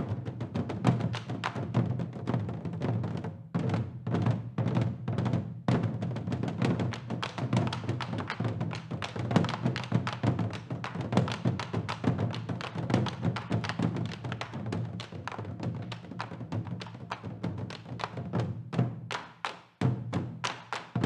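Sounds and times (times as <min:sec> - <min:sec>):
fast drum strokes: 0:00.0 - 0:21.0.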